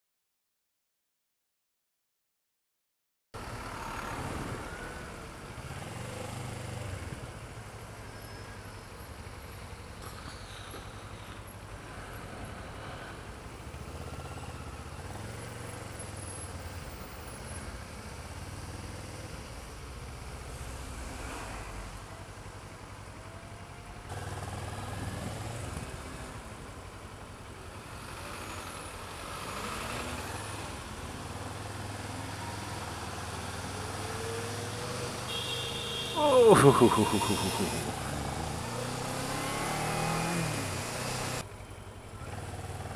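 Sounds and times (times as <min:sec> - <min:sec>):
vehicles passing: 0:03.4 - 0:42.9.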